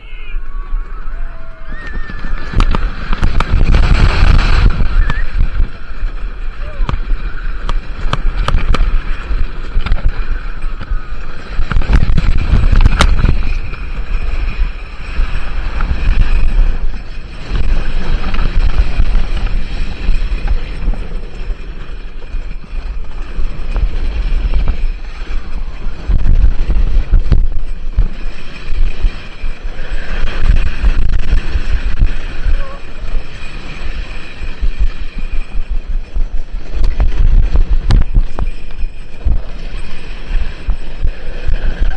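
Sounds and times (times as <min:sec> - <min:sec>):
low rumble: 0:00.0 - 0:41.9
wind buffeting microphone: 0:00.0 - 0:41.9.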